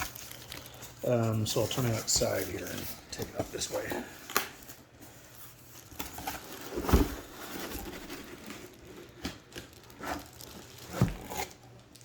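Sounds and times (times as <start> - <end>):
cardboard box rustling: 0.0 - 4.0, 5.0 - 11.6.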